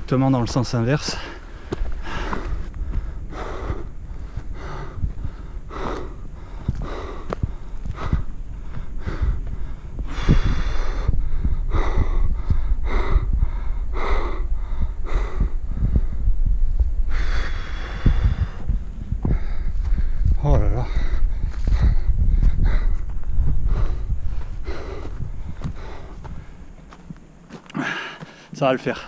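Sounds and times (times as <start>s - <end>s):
man breathing hard: 1.1s - 16.4s, 17.0s - 26.8s, 27.6s - 28.6s.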